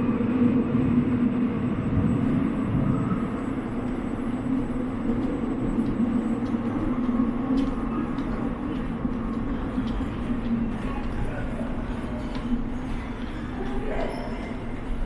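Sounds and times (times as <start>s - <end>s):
constant hum: 0.0s - 15.0s
vehicles rumbling: 1.9s - 15.0s.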